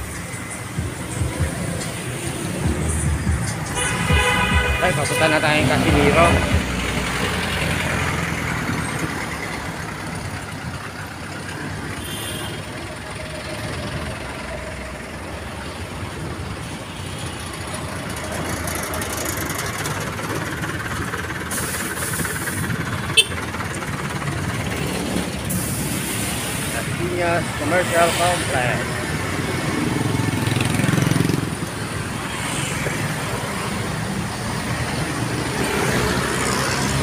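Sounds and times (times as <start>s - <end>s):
vehicle engines idling in traffic: 0.0s - 37.0s.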